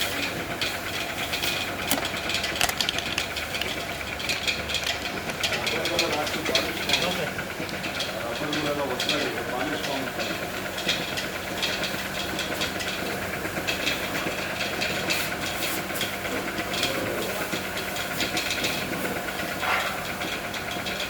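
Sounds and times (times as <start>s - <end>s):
tractor diesel engine running: 0.0s - 21.0s
ticking clatter: 0.2s - 21.0s.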